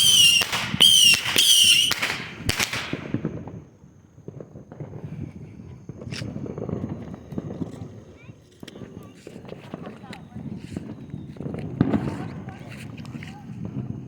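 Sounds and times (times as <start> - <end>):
fireworks crackling pops: 0.0 - 14.0
fireworks whistling: 0.0 - 14.0.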